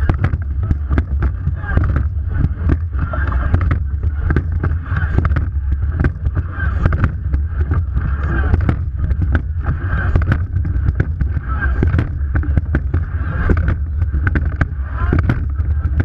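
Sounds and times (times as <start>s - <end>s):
water rushing along boat bow: 0.0s - 16.0s
wind buffeting microphone: 0.0s - 16.0s.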